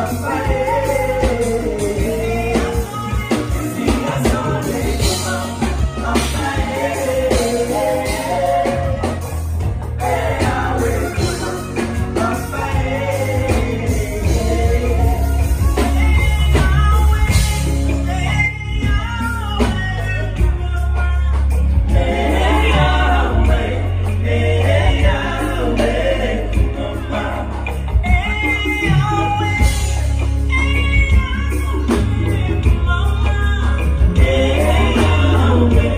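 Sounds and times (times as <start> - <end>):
drums: 0.0 - 35.9
heavy bass line: 0.0 - 35.9
live band playing: 0.0 - 35.9.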